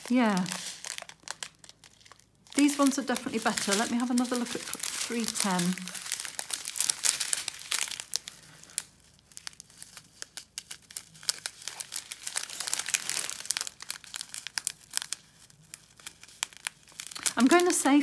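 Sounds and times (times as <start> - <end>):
plastic packet crinkling: 0.0 - 18.0.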